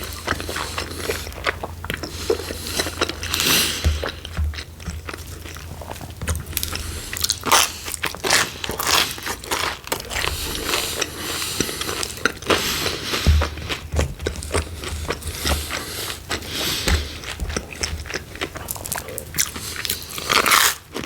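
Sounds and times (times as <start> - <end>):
pizza chewing: 0.0 - 21.0
crust crunching: 1.9 - 19.5.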